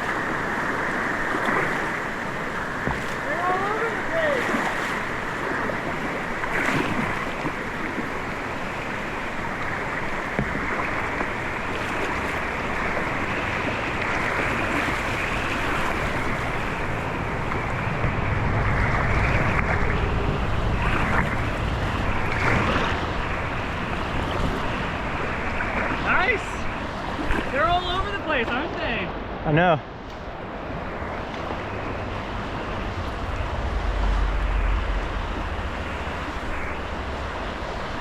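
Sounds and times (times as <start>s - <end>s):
rushing river whitewater: 0.0s - 38.0s
wind rumble on microphone: 0.0s - 38.0s.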